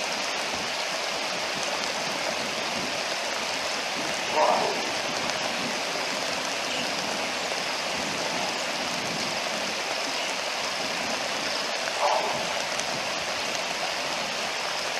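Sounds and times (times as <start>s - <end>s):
rain falling on water: 0.0s - 14.9s.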